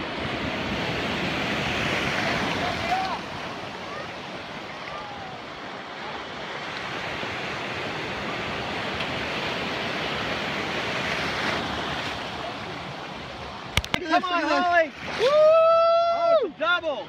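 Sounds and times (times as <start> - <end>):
whitewater rushing: 0.0 - 6.4, 8.1 - 17.0
small waves breaking: 0.0 - 17.0.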